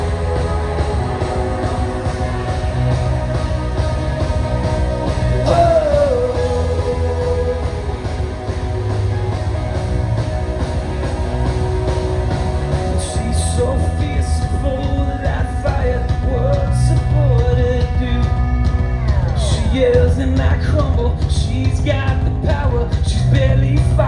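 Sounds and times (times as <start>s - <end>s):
heavy bass: 0.0s - 24.0s
rock band playing live: 0.0s - 24.0s.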